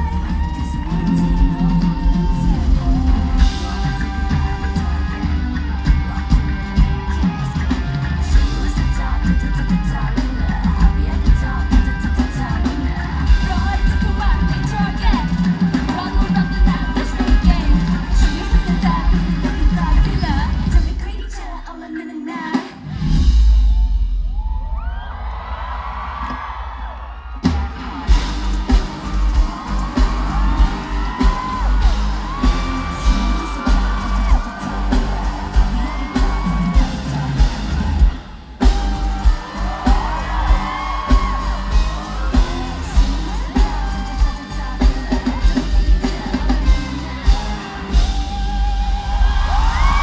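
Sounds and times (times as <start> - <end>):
fans whooping and yelling: 0.0 - 20.8, 23.6 - 50.0
live pop song over sound system: 0.0 - 50.0.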